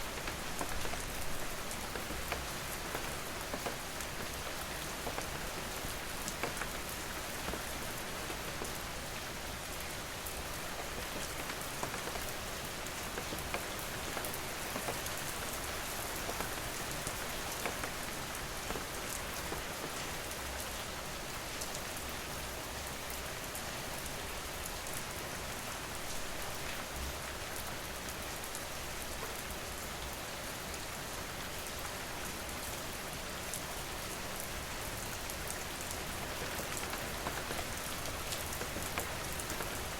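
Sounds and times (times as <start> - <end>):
raindrops ticking on surface: 0.0 - 39.9
steady rain hiss: 0.0 - 39.9.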